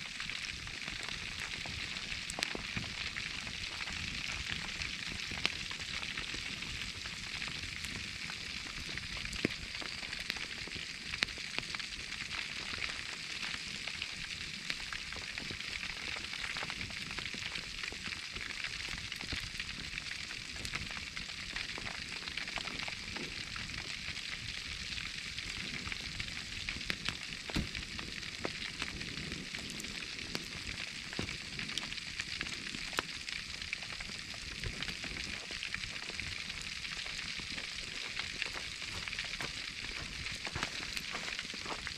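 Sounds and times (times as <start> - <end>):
fire pops and crackles: 0.0 - 41.9
meat sizzling: 0.0 - 41.9.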